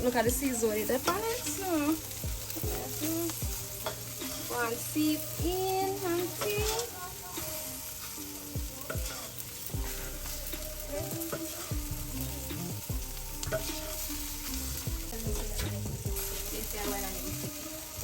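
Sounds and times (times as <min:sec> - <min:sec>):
chicken sizzling on a charcoal grill: 0:00.0 - 0:18.0.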